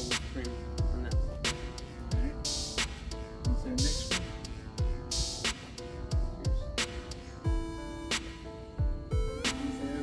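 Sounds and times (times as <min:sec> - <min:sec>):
deep kick drum beat: 0:00.0 - 0:09.8.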